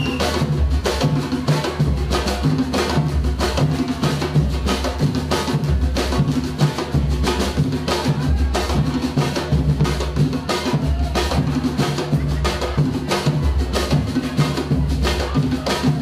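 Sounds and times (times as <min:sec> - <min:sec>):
fast drum rhythm: 0:00.0 - 0:16.0.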